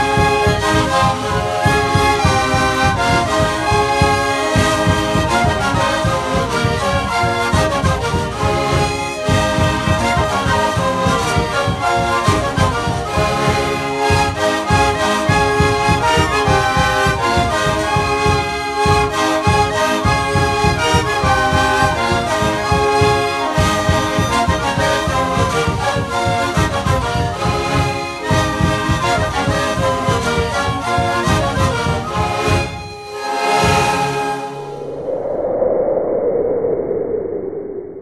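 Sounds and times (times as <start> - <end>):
steady low drum beat: 0.0 - 33.8
panpipe ensemble playing: 0.0 - 34.7.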